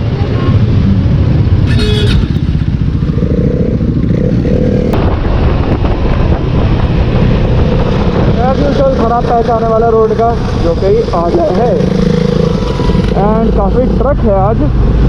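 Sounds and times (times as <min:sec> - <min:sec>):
wind noise on microphone: 0:00.0 - 0:13.2
motorcycle engine running: 0:00.0 - 0:15.0.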